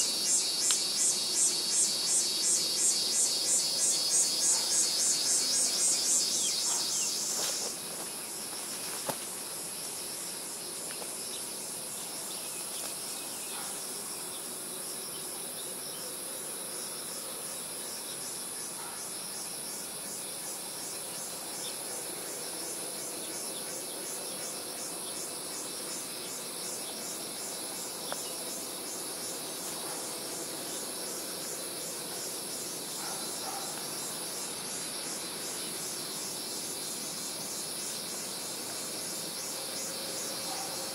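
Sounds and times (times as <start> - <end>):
insects chorus with pulsing trill: 0.0 - 40.9
louder pulsing insect call: 0.0 - 40.9.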